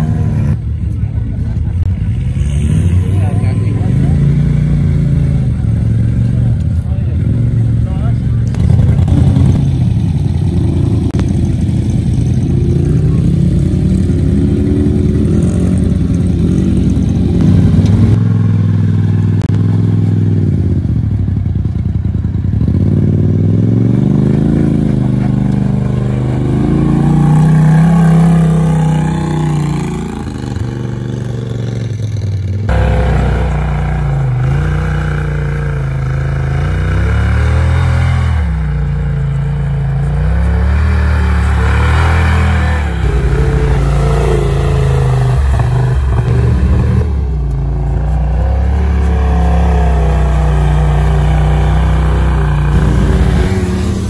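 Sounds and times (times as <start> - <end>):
off-road vehicle engines revving: 0.0 - 54.0.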